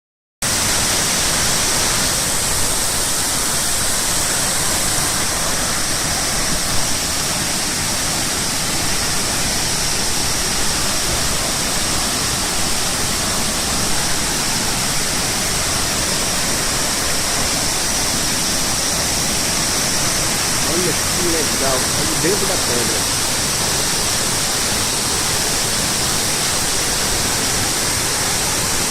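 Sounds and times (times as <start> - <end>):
waterfall rushing: 0.4 - 28.9.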